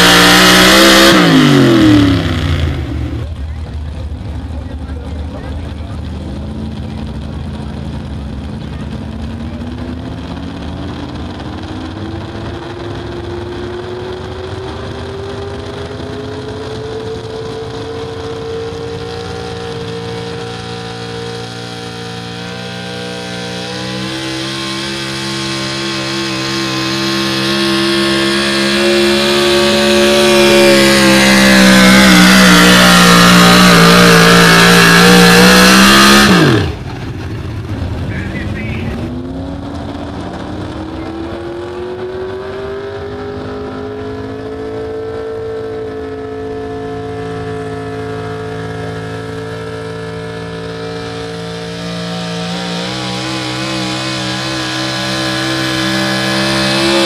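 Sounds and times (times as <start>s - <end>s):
truck engine at high revs: 0.0s - 57.0s.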